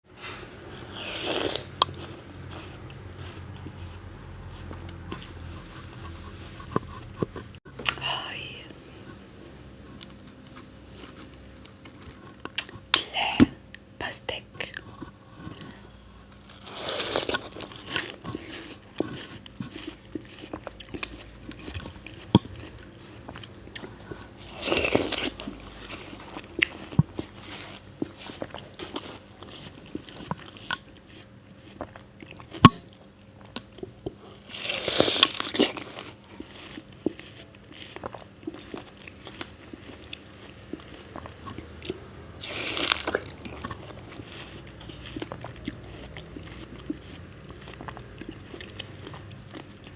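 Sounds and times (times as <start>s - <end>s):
juicy watermelon crunches: 0.2s - 13.8s, 14.6s - 49.9s
wet chewing: 0.2s - 13.9s, 14.6s - 49.9s.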